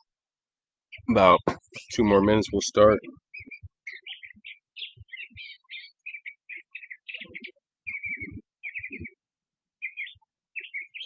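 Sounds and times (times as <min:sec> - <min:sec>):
small birds chirping: 0:00.8 - 0:11.0.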